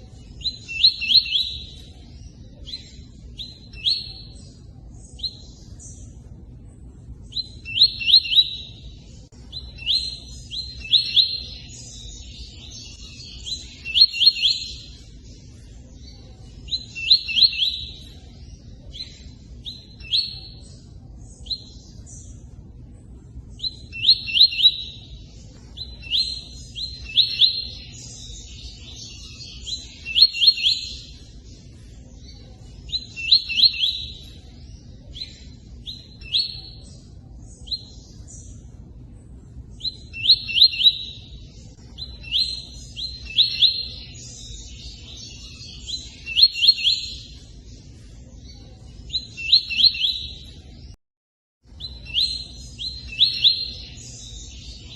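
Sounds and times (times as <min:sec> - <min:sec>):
songbird whistling song: 0:00.0 - 0:51.0, 0:51.7 - 0:54.9.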